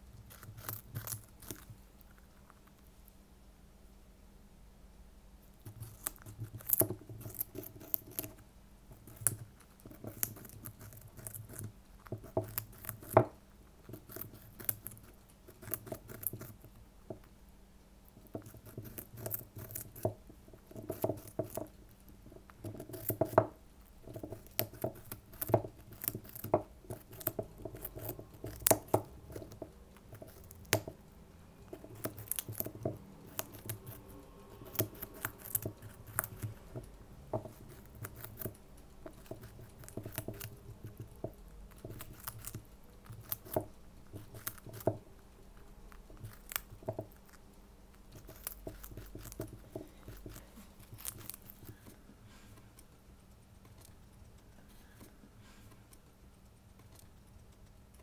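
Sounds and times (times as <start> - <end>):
hamster crunching carrot: 0.0 - 3.2, 5.5 - 17.4, 18.0 - 57.3.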